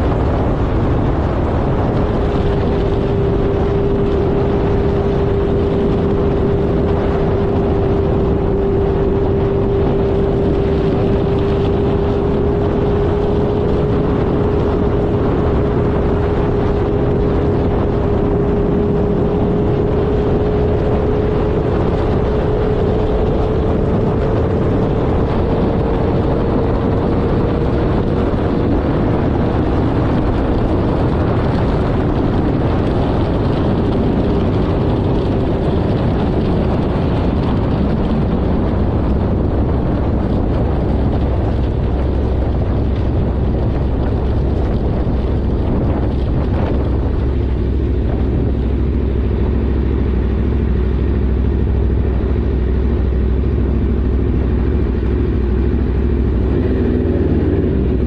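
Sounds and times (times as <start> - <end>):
motorcycle engine cruising: 0.0 - 58.0
wind rush on microphone: 0.0 - 58.0.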